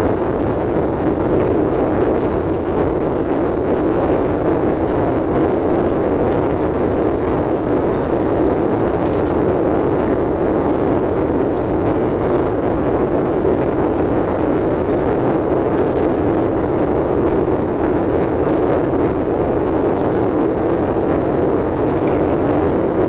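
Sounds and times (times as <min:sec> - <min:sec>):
car cabin road and engine noise: 0:00.0 - 0:23.0.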